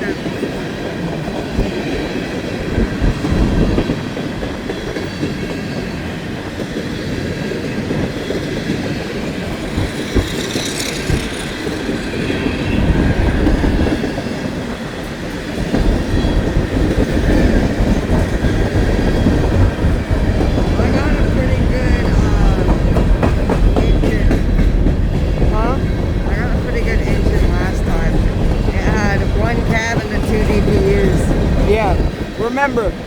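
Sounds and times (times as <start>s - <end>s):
clickety-clack over rail joints: 0.0s - 33.0s
train wheels rumbling on rails: 0.0s - 33.0s.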